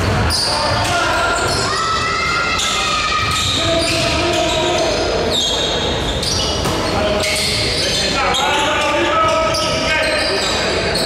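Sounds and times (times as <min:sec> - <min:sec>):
players' voices: 0:00.0 - 0:11.0
sneakers squeaking: 0:00.0 - 0:11.0.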